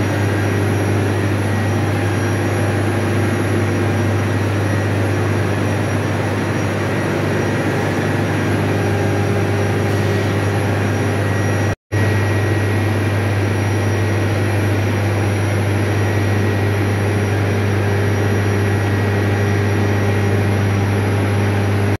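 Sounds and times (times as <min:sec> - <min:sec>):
turbine machine drone: 0:00.0 - 0:22.0.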